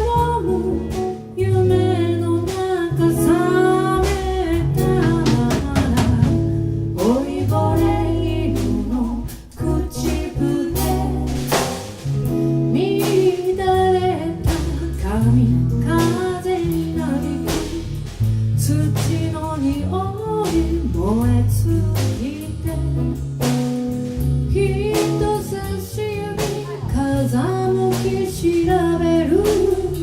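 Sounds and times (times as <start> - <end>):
live band playing: 0.0 - 30.0.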